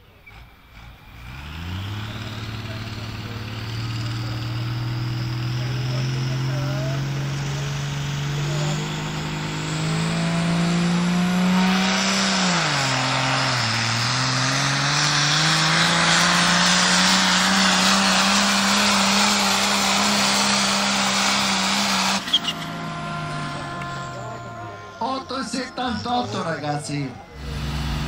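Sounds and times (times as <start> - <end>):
tractor engine at full throttle: 0.0 - 28.0.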